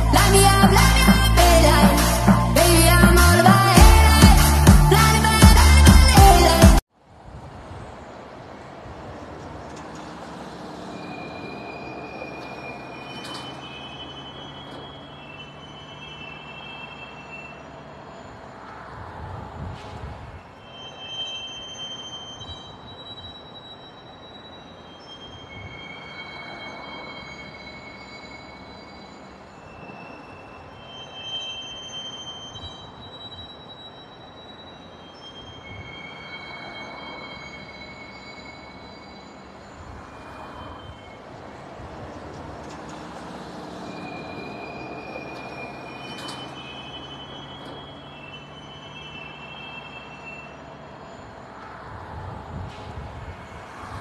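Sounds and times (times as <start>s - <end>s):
railcar wheels squealing: 0.0s - 6.6s, 9.1s - 54.0s.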